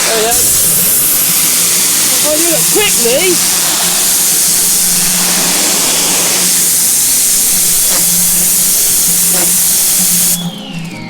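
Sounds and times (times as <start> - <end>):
pressure washer water jet hissing: 0.0 - 10.6.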